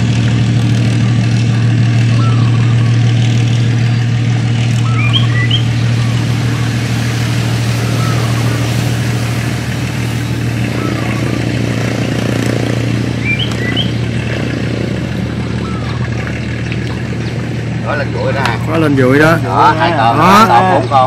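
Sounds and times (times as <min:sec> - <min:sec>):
boat engine humming steadily: 0:00.0 - 0:21.0.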